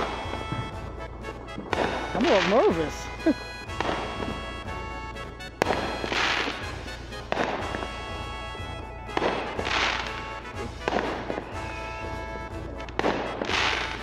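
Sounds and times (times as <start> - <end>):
background music: 0.0 - 14.0
firework bangs: 0.0 - 14.0
fireworks crackling: 0.0 - 14.0.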